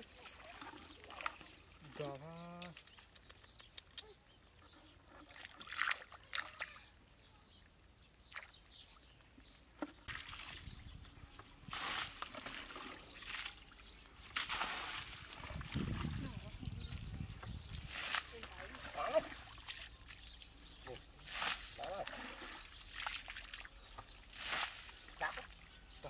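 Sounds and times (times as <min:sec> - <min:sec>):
muddy water splashing: 0:00.0 - 0:03.2, 0:05.1 - 0:07.0, 0:08.2 - 0:08.8, 0:09.8 - 0:26.0.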